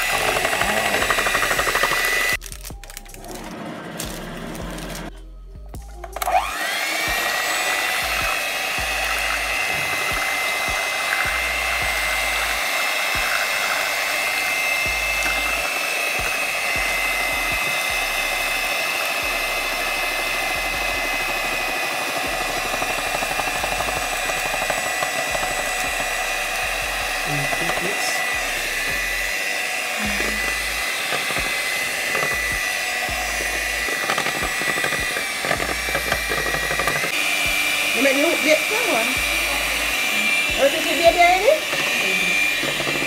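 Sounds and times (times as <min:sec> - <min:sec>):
electric hand mixer whine: 0:00.0 - 0:05.1, 0:05.8 - 0:43.0.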